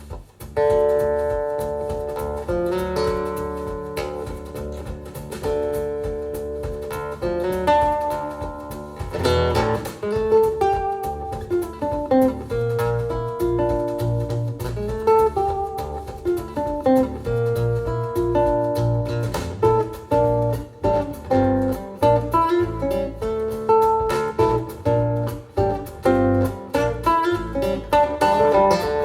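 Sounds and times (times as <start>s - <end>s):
plucked guitar music over loudspeakers: 0.0s - 29.0s.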